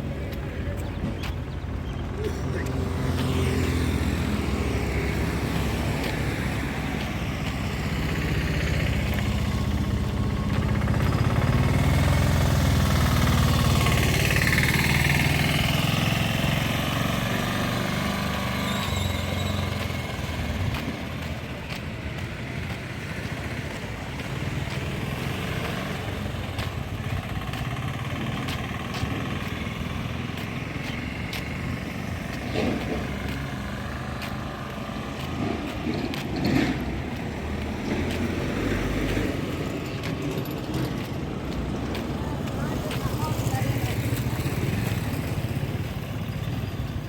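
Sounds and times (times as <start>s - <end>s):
motorcycles and cars passing: 0.0s - 47.0s.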